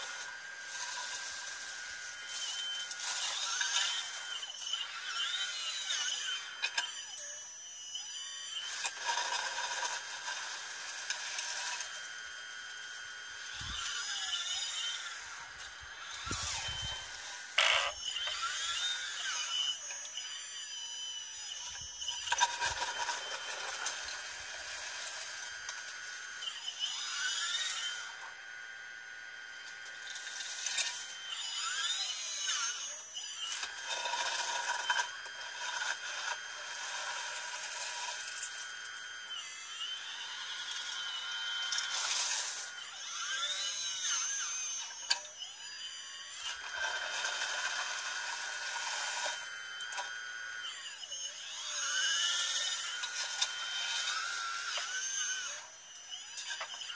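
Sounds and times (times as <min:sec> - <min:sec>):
hydraulic pump whining: 0:00.0 - 0:56.9.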